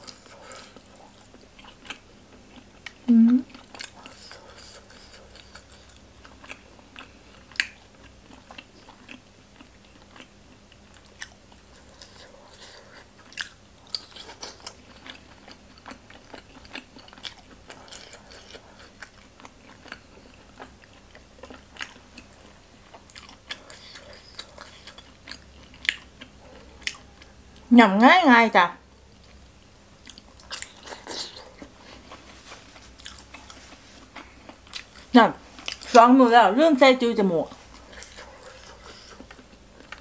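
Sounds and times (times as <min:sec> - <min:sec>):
chewing and biting: 0:00.0 - 0:27.7, 0:30.0 - 0:36.0, 0:37.5 - 0:40.0.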